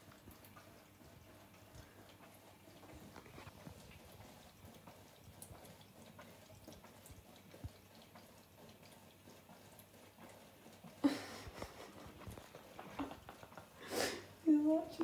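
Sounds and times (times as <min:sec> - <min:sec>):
tap water trickling into sink: 0:00.0 - 0:10.8, 0:11.5 - 0:13.8
cat lapping water: 0:00.0 - 0:14.4
small drips and ticks: 0:00.0 - 0:15.0.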